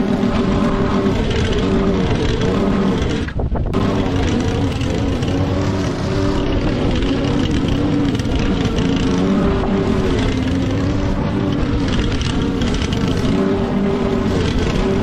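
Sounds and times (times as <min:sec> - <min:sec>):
lawn mower engine mowing grass: 0:00.0 - 0:15.0.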